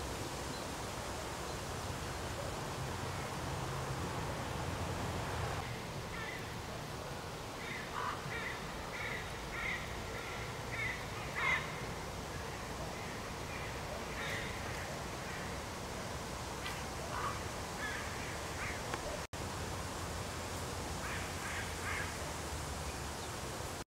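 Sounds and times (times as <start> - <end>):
steady background hiss: 0.0 - 23.8.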